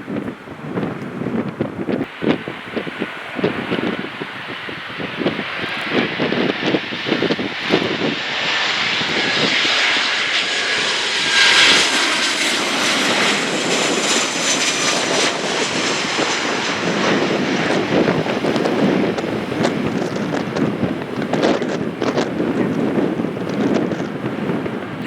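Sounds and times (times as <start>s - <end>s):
airliner engines roaring: 0.0s - 25.0s
wind buffeting microphone: 0.0s - 25.0s.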